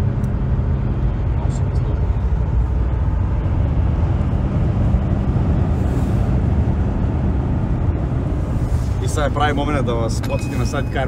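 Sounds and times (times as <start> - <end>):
car interior motorway rumble: 0.0 - 11.0.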